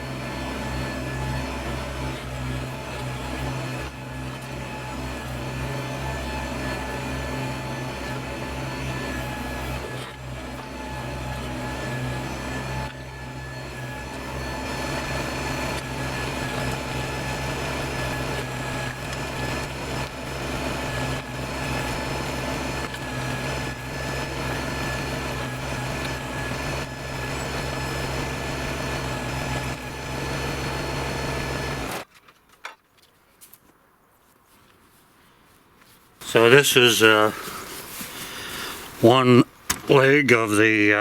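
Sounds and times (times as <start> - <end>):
tractor diesel engine running: 0.0 - 32.0, 36.2 - 41.0.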